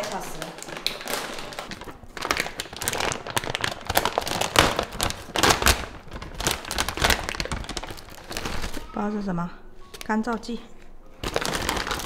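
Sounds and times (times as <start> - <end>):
plastic packaging crinkling: 0.0 - 9.1, 11.2 - 12.0.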